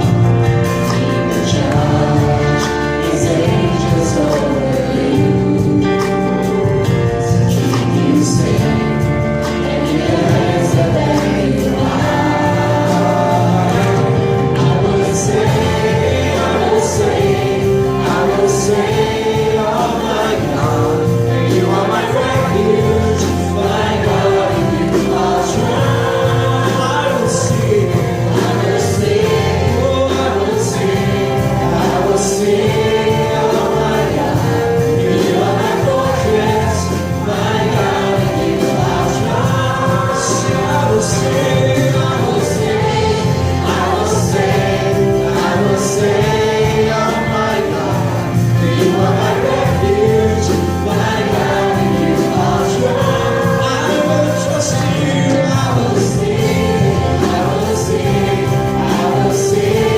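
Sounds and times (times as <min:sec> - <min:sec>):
group singing gospel song: 0:00.0 - 0:59.9
instrumental accompaniment: 0:00.0 - 0:59.9.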